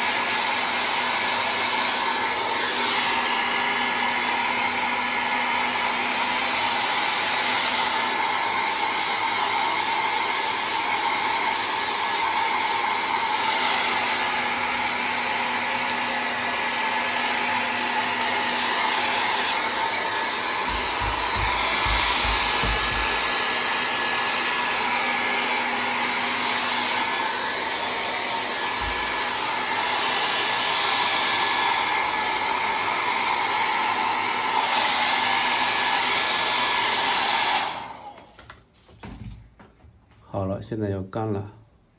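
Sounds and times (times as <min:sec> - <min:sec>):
hair dryer blowing: 0:00.0 - 0:39.2.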